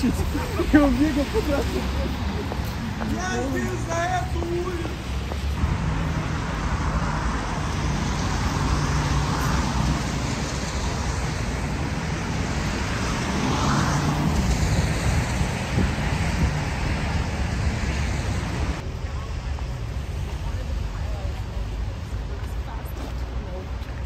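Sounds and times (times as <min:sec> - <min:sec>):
cars passing: 0:00.0 - 0:24.0
road traffic noise: 0:00.0 - 0:24.0.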